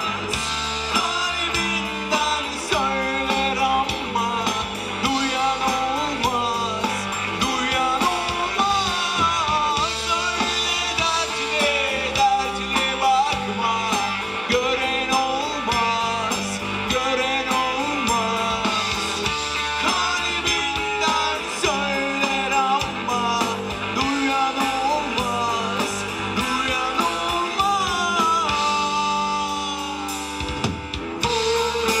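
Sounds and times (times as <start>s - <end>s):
bass guitar: 0.0s - 32.0s
drum kit: 0.0s - 32.0s
electric guitars: 0.0s - 32.0s
man singing: 0.0s - 32.0s.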